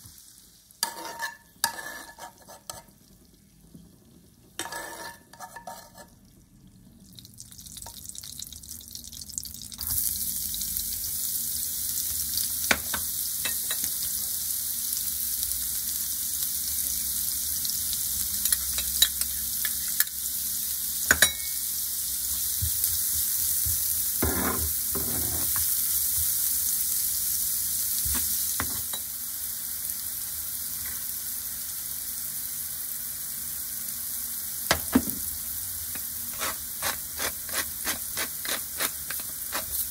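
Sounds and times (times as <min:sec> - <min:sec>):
shallots and garlic sizzling in oil: 0:00.0 - 0:39.9.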